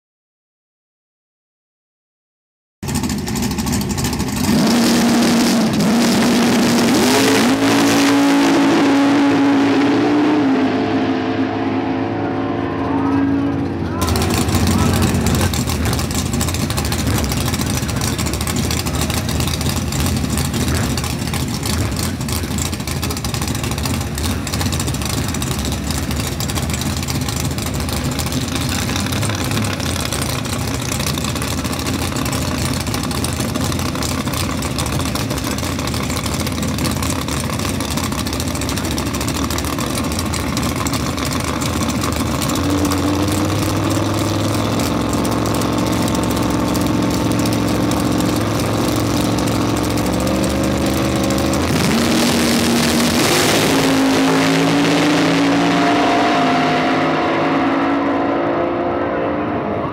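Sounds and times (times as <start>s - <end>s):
race engine idling roughly: 2.8s - 7.9s, 12.3s - 56.8s.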